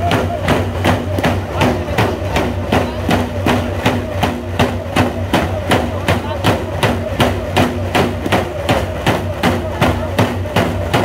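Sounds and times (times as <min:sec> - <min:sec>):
frame drums beating: 0:00.0 - 0:11.0.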